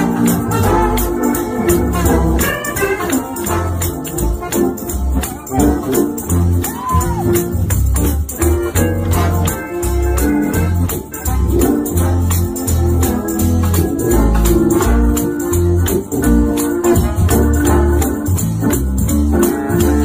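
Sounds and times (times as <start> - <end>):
organ: 0.0 - 20.0
rattling tambourine beat: 0.0 - 20.0.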